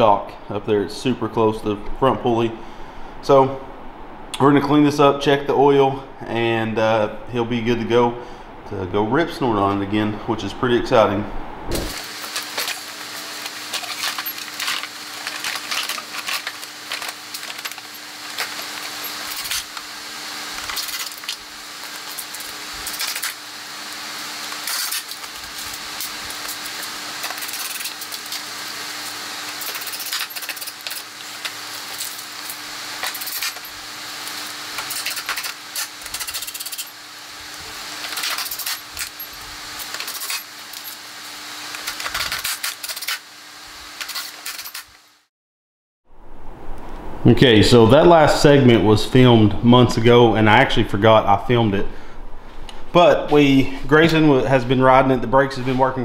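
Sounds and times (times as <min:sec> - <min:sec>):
faint hum: 0:00.0 - 0:44.2, 0:46.1 - 0:56.0.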